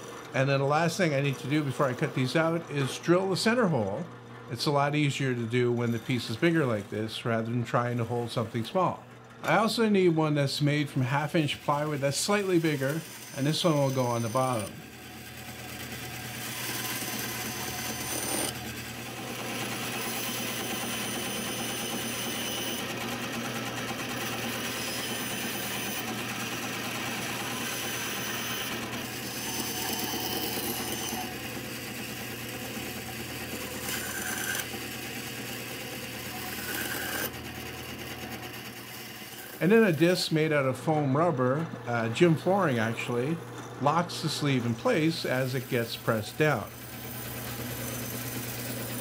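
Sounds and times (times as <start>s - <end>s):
power saw cutting plywood: 0.0s - 49.0s.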